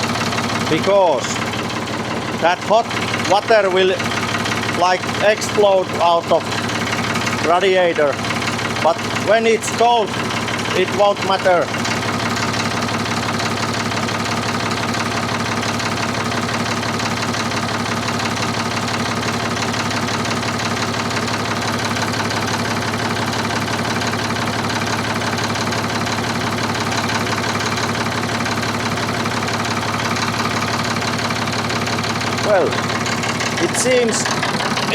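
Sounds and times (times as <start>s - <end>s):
tractor engine idling: 0.0s - 34.9s.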